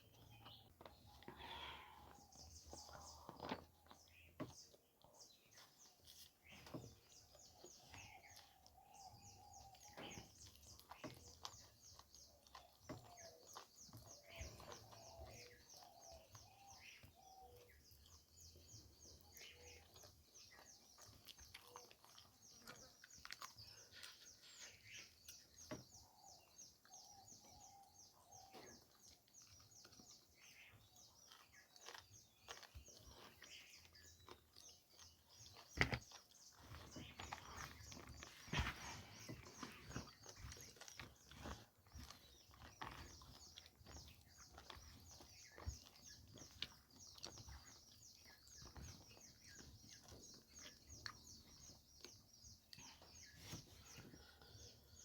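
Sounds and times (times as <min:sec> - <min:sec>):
faint chewing: 0:00.0 - 0:55.0.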